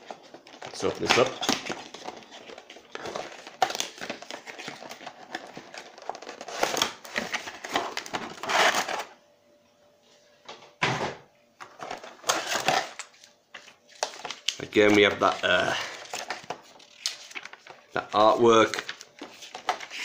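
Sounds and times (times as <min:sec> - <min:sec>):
cardboard and plastic rustling: 0:00.0 - 0:09.1, 0:11.6 - 0:20.0.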